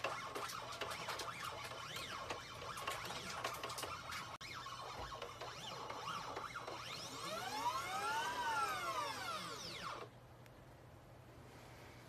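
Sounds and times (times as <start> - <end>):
stepper motors whining: 0.0 - 10.1.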